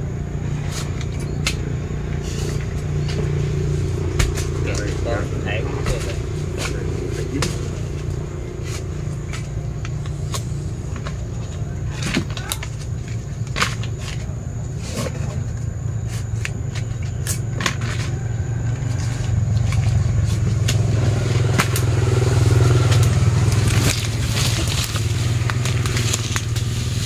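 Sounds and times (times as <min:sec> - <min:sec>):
fruit being handled and sorted: 0:00.0 - 0:27.0
low engine-like rumble: 0:00.0 - 0:27.0.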